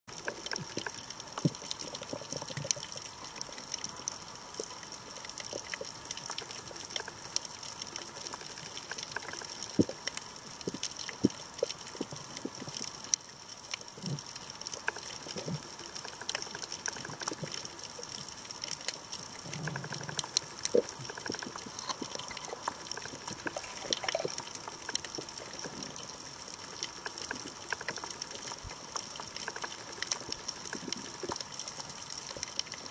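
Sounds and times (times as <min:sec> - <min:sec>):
crackling clicks: 0:00.1 - 0:32.9.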